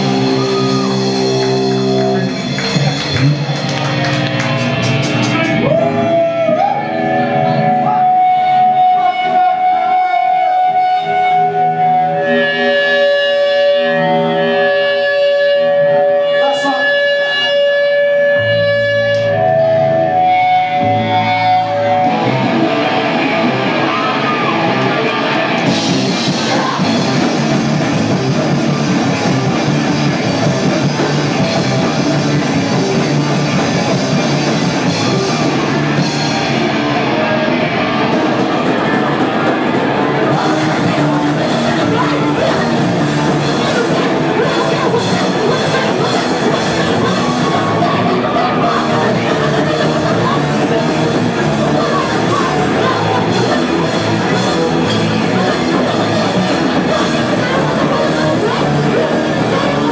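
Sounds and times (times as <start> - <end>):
held electric guitar notes: 0.0 - 59.9
live rock band: 0.0 - 59.9.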